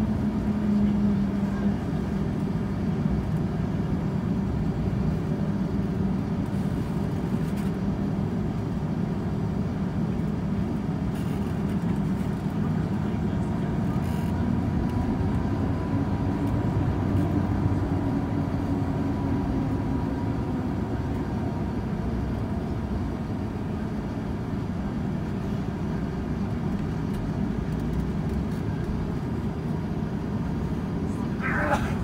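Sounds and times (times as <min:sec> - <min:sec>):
jet engines low rumble: 0:00.0 - 0:32.0.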